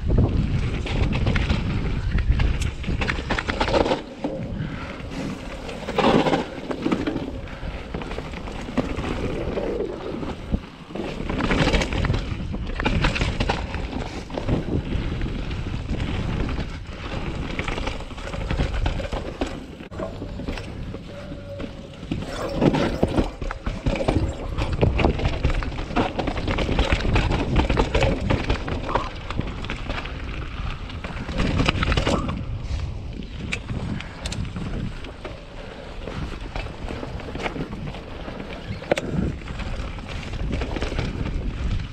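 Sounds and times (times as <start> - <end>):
bike tyres rolling over dirt: 0.0 - 41.9
wind noise on microphone: 0.0 - 41.9
bike chain and frame rattling: 0.1 - 41.9.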